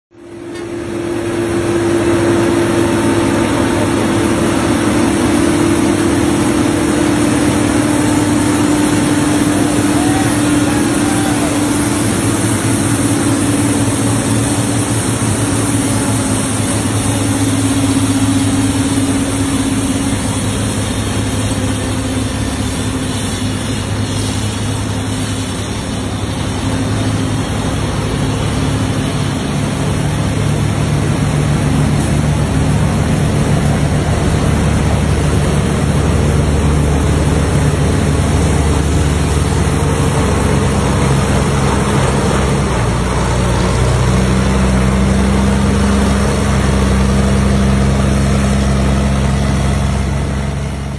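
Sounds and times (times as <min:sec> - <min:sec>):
heavy diesel trucks droning: 0:00.2 - 0:50.9.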